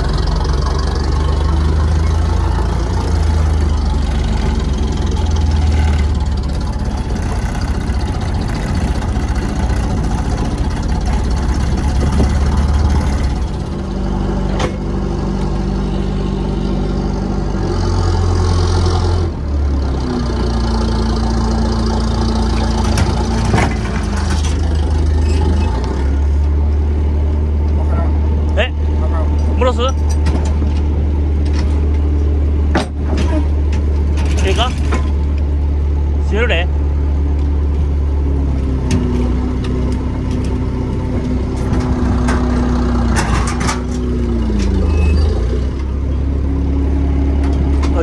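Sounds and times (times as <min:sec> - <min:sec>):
boat diesel engine droning: 0:00.0 - 0:48.0.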